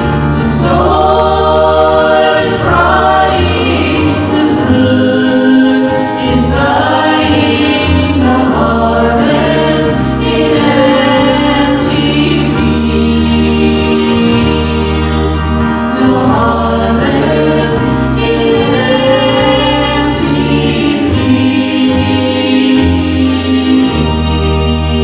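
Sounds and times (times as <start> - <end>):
sustained low bass notes: 0.0 - 25.0
vocal group singing a hymn: 0.0 - 25.0.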